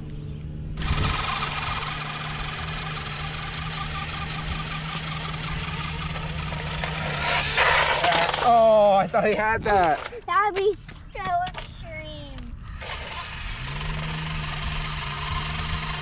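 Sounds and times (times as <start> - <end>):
electric motorcycle whirring: 0.0 - 10.3, 12.4 - 16.0.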